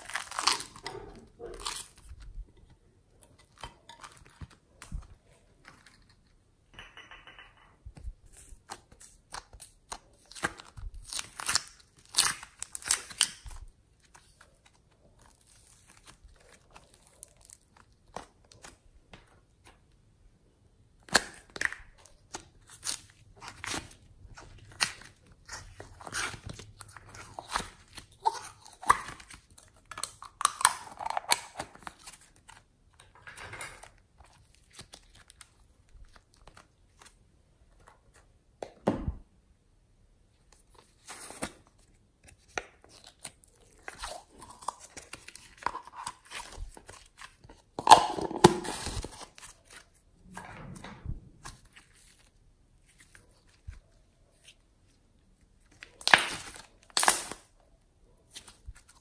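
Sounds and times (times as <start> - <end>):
clay and packaging crackling: 0.0 - 6.6, 8.0 - 20.0, 21.0 - 38.5, 40.3 - 50.2, 51.4 - 59.0.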